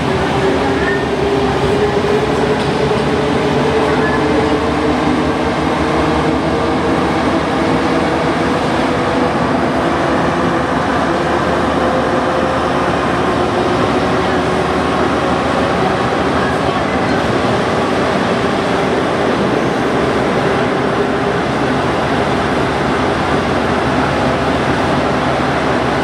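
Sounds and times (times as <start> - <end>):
metro train running in tunnel: 0.0 - 26.0
rising train whine: 0.0 - 26.0.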